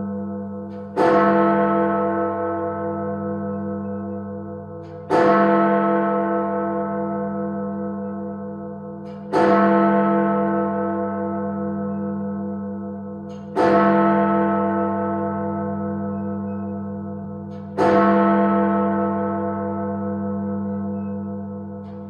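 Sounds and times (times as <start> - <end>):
deep clock bell striking: 0.0 - 22.0.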